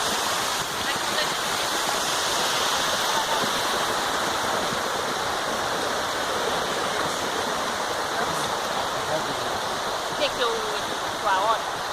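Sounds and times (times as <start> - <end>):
waterfall rushing water: 0.0 - 11.9.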